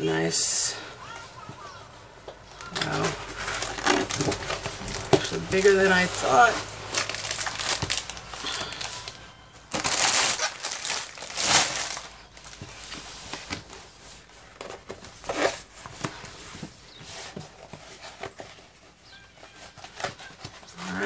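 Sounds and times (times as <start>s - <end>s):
plastic film crinkling: 0.5s - 21.0s.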